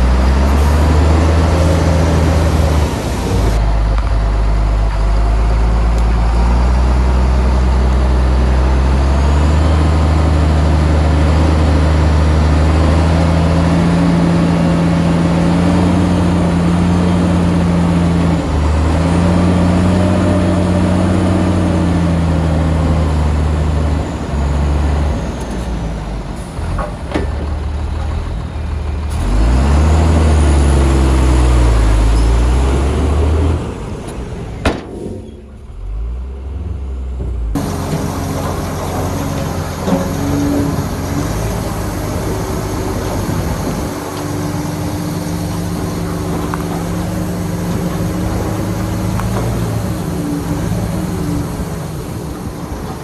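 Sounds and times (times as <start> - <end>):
bulldozer diesel engine: 0.0 - 53.0.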